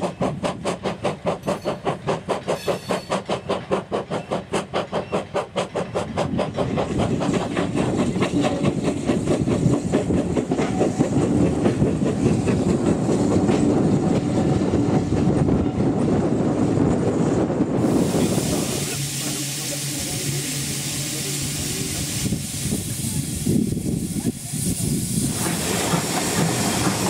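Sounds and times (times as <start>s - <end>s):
train wheels clattering over rail joints: 0.0s - 22.3s, 25.1s - 27.0s
steam locomotive chuffing: 0.0s - 27.0s.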